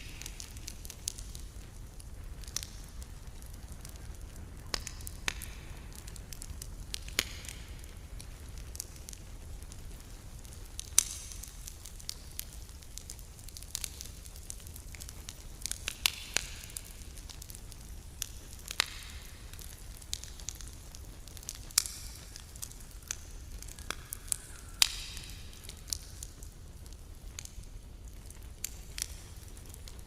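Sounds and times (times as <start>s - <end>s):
campfire crackling and popping: 0.0s - 30.0s
low fire rumble: 0.0s - 30.0s.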